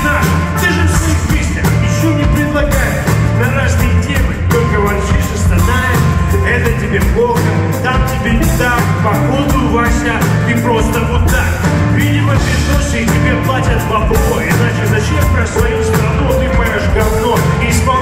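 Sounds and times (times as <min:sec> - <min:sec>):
man singing: 0:00.0 - 0:18.0
rock band playing: 0:00.0 - 0:18.0.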